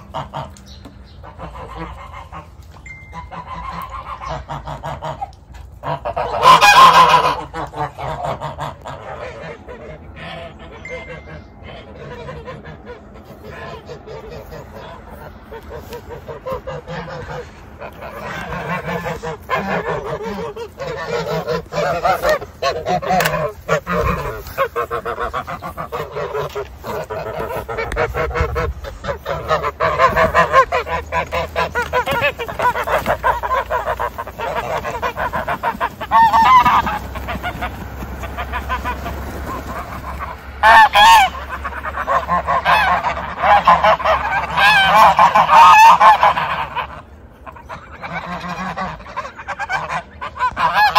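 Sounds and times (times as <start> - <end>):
geese honking: 0.0 - 50.9.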